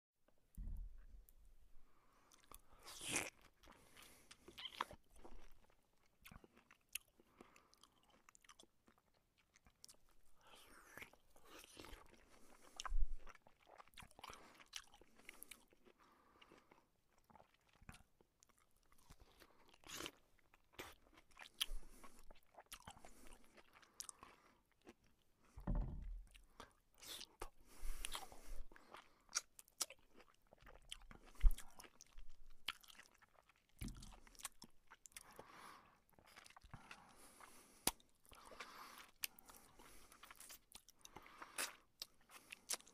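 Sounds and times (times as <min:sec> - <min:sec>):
person chewing juicy fruit: 0:02.2 - 0:42.9.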